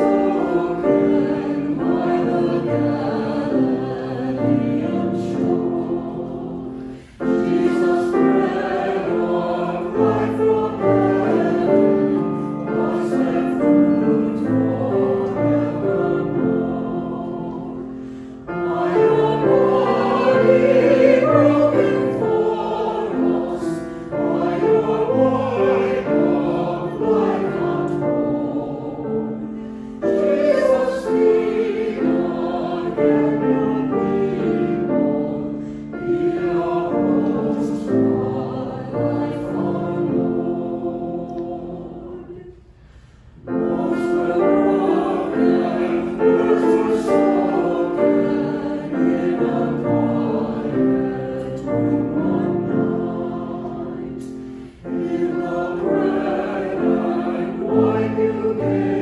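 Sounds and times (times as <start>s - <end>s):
piano accompaniment: 0.0s - 42.4s, 43.4s - 59.0s
church choir singing: 0.0s - 59.0s.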